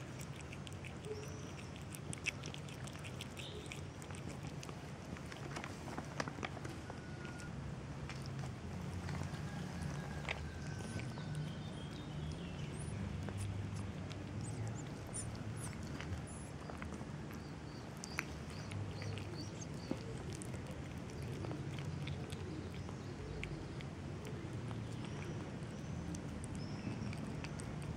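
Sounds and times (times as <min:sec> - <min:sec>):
cats chewing wet food: 0:00.0 - 0:27.9.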